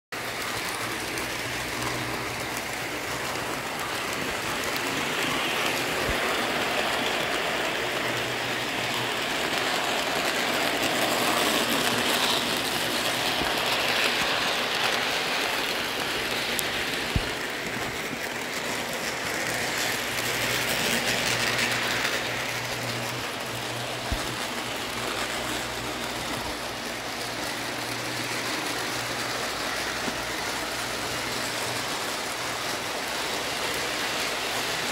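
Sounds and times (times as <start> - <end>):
model train motors whirring: 0.2 - 34.9.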